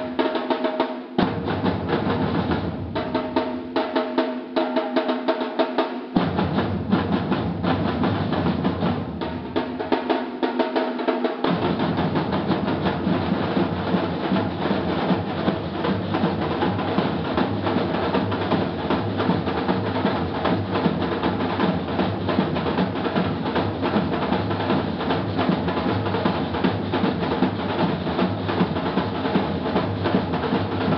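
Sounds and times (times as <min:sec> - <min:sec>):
snare and repinique drumming: 0:00.0 - 0:30.9.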